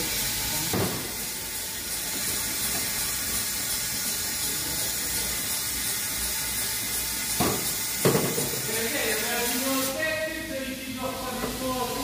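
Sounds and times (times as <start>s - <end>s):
cleaning fluid hissing: 0.0s - 12.0s.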